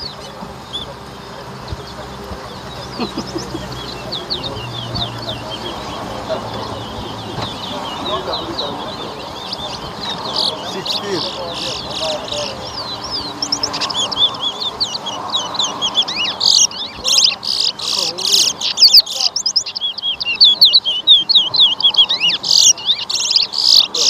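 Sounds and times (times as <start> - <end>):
caged finches singing: 0.0 - 24.0.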